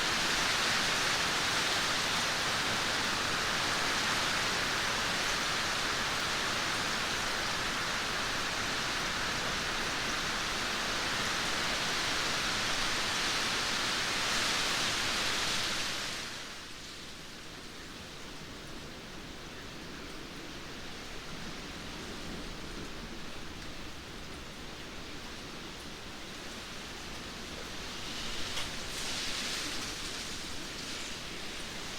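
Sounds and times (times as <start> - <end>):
heavy rain hissing: 0.0 - 17.6, 20.8 - 31.9.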